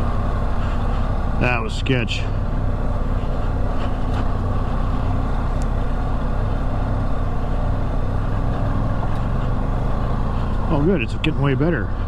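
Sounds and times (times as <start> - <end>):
motorcycle engine running: 0.0 - 12.0
road and wind noise: 0.0 - 12.0
tires on gravel: 0.0 - 12.0.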